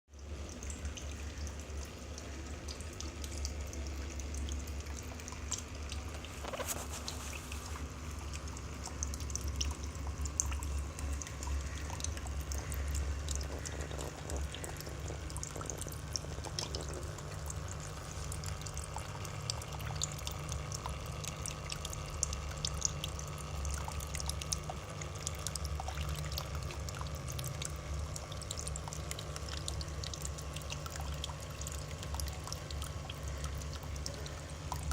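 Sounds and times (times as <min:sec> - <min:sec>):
fountain water trickling: 0:00.1 - 0:34.9.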